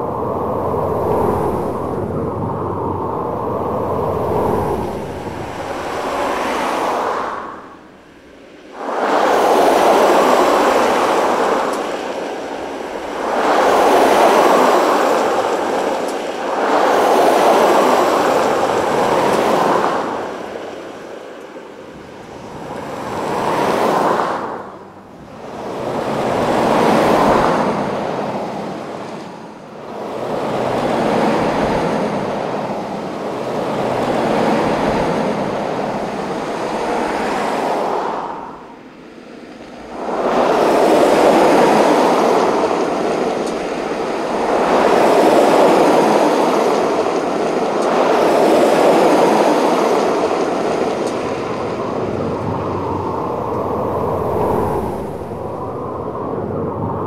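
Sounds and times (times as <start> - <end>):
cars passing on freeway: 0.0 - 56.9.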